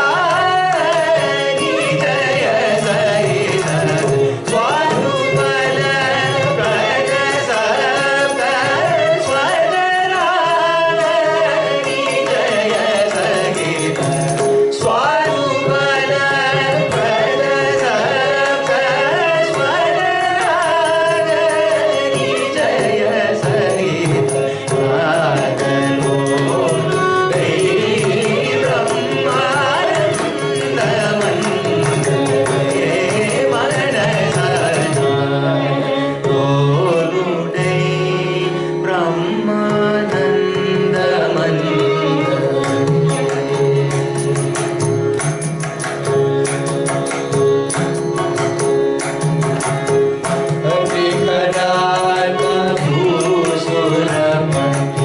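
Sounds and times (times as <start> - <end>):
violin accompaniment: 0.0 - 55.0.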